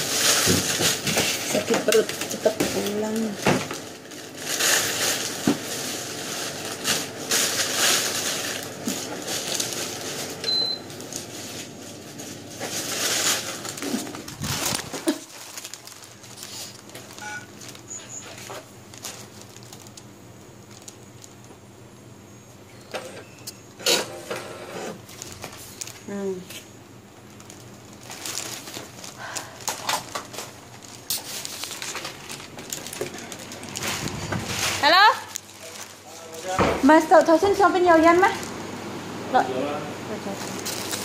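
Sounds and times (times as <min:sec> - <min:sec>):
plastic bag rustling: 0:00.0 - 0:21.7, 0:24.4 - 0:38.8, 0:40.1 - 0:41.0.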